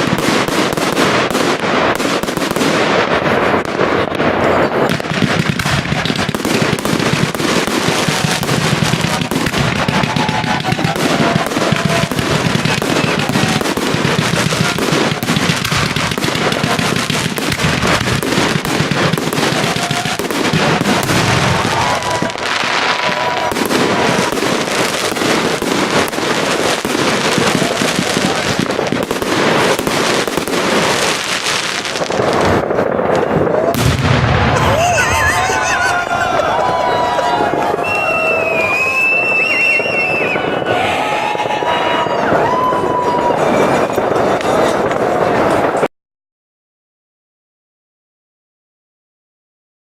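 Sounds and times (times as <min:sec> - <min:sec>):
fireworks crackling and banging: 0:00.0 - 0:45.9.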